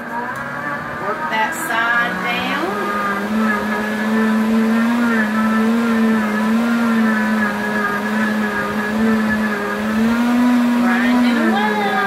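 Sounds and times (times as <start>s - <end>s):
blender grinding oats: 0.0s - 12.0s.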